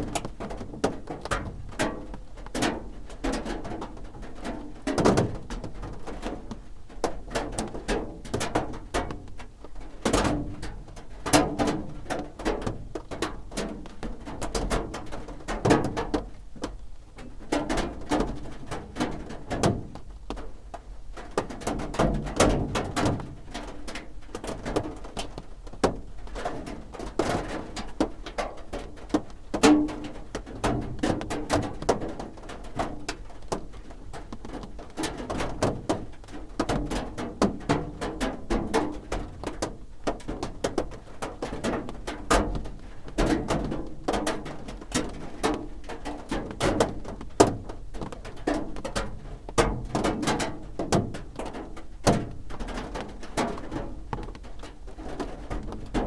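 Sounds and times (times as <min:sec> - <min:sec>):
rain drumming on a roof: 0:00.0 - 0:56.0.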